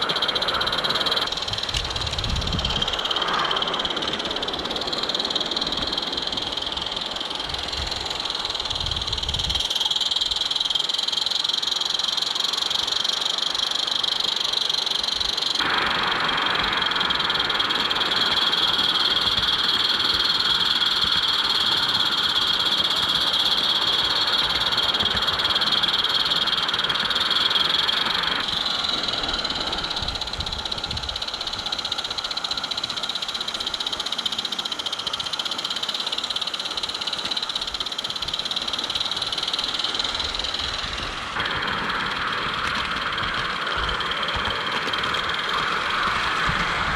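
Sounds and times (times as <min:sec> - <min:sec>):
chorus of calling frogs: 0:00.0 - 0:46.9.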